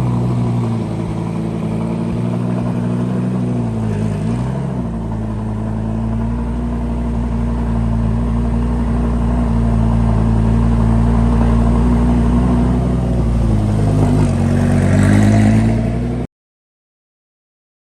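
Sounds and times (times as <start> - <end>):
sports car engine idling: 0.0 - 14.7.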